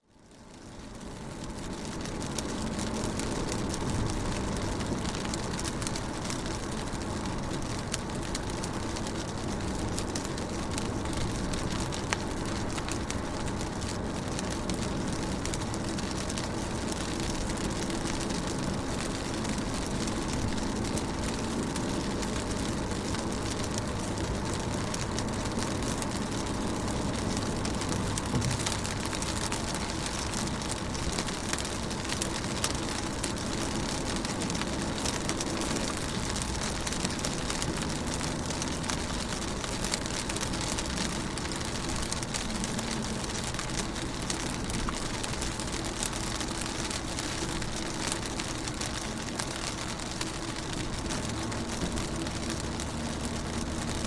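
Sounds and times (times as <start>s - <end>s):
rain pattering on a car: 0.0s - 54.0s.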